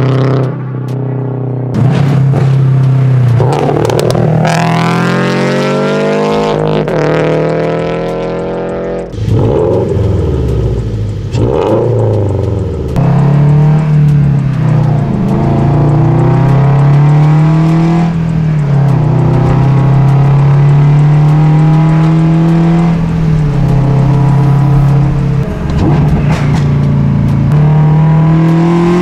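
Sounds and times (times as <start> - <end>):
car engine revving: 0.0 - 29.0
gear change: 1.8 - 29.0.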